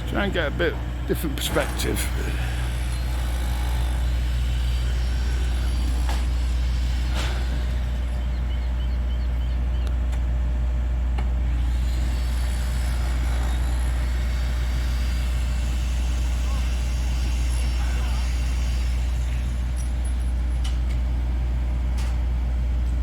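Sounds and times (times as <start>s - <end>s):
diesel demolition machinery rumbling: 0.0s - 23.0s.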